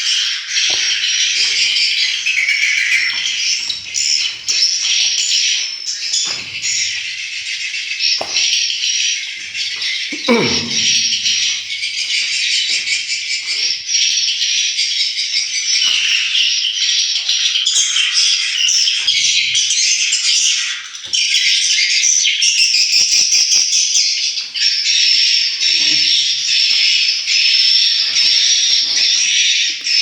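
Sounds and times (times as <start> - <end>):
recorded bird twittering and chirping: 0.0 - 30.0.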